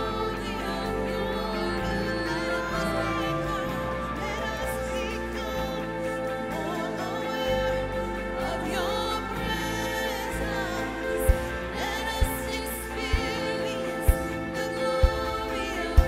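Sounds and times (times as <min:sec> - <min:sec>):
keyboard pad: 0:00.0 - 0:16.0
person singing: 0:00.0 - 0:16.0.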